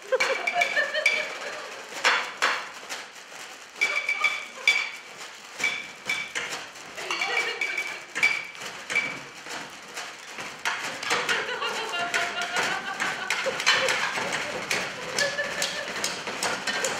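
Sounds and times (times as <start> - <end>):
percussion on dishes clinking: 0.0 - 16.9.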